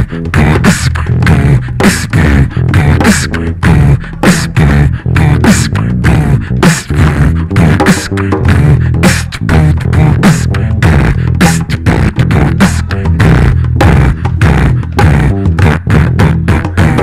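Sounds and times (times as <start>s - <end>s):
beatboxing into a microphone: 0.0s - 17.0s.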